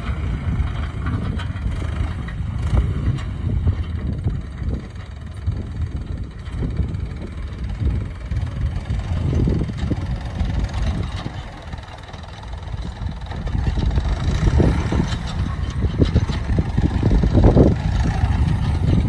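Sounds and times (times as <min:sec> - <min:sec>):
tractor diesel engine rumbling: 0:00.0 - 0:19.0.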